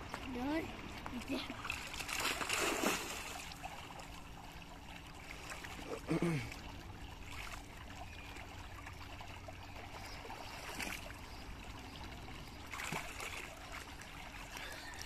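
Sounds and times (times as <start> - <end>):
pool water sloshing and trickling: 0.0 - 15.0
water splashes: 0.0 - 15.0.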